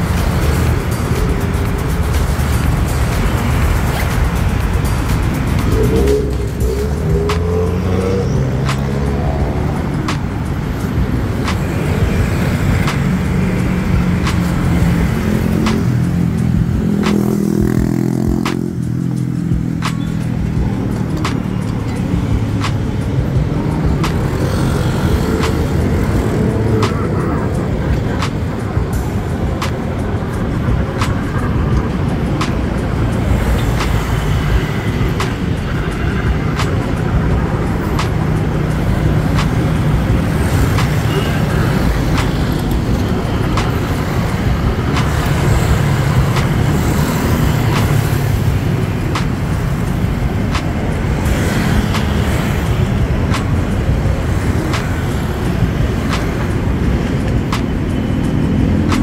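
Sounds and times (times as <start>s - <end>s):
road traffic drone: 0.0s - 59.0s.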